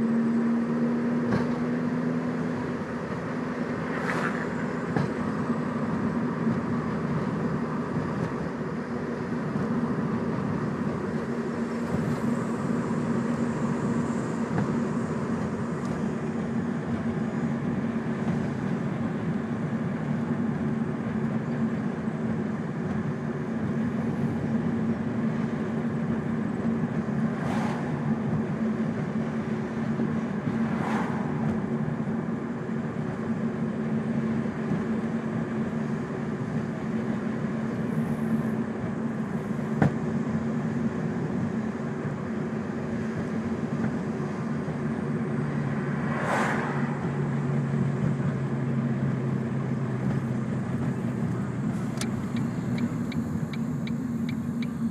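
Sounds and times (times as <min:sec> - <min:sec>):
car engine and road drone: 0:00.0 - 0:54.9.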